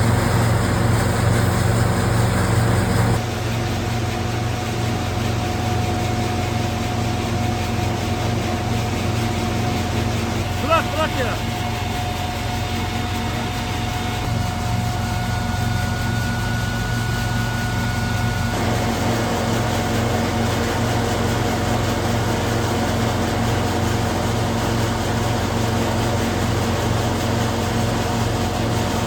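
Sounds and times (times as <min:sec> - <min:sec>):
threshing machine running: 0:00.0 - 0:03.5, 0:06.9 - 0:29.0.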